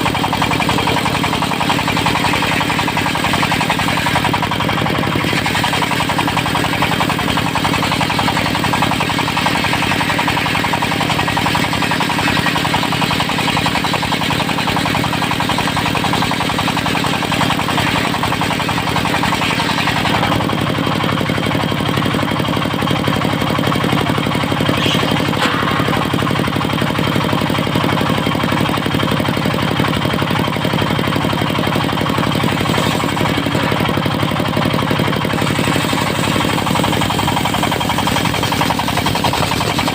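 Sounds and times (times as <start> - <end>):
circular saw cutting wood: 0.0 - 39.9
diesel engine running: 0.0 - 39.9.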